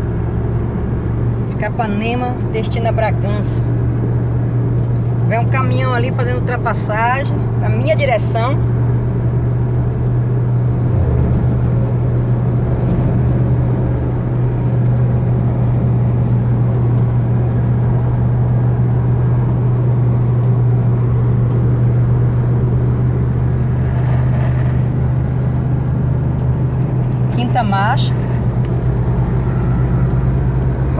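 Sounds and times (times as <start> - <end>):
low drone inside pickup cab: 0.0 - 30.9
road noise: 0.0 - 30.9.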